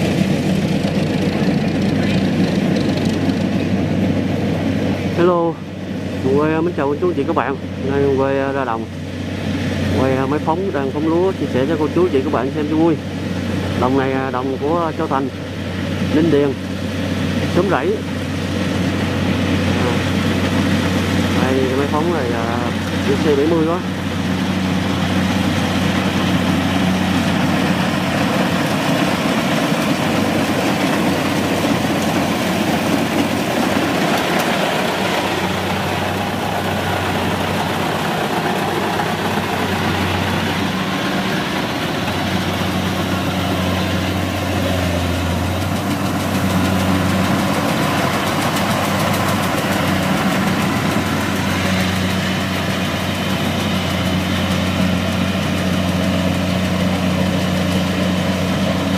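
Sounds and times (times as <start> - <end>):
combine harvester engine drone: 0.0 - 58.9
machinery noise: 0.0 - 58.9.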